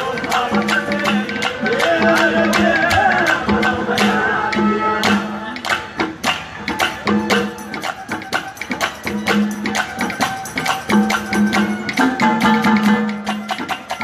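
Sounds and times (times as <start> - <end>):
hand drum strokes: 0.0 - 14.0
jingling percussion: 0.0 - 14.0.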